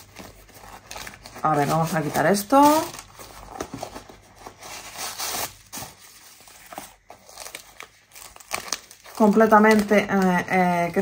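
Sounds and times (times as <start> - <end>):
tissue paper rustling: 0.0 - 10.2.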